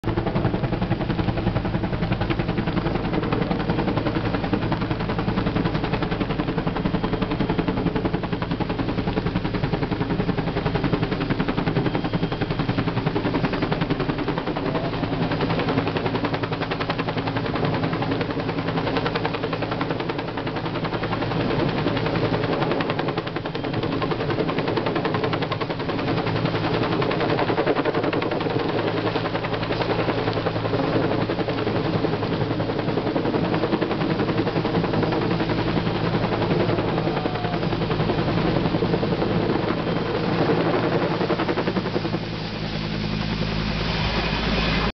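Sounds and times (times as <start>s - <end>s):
helicopter rotor chopping: 0.0s - 44.9s.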